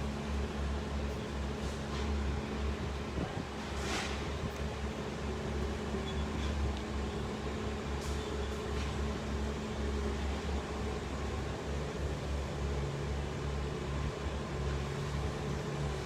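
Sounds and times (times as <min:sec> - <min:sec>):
low mechanical motor hum: 0:00.0 - 0:16.0.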